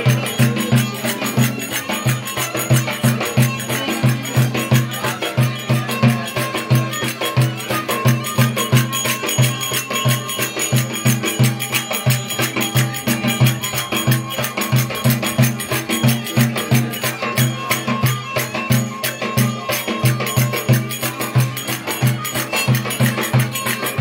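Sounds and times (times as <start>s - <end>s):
folk dance music: 0.0s - 24.0s
steady drum beat: 0.0s - 24.0s.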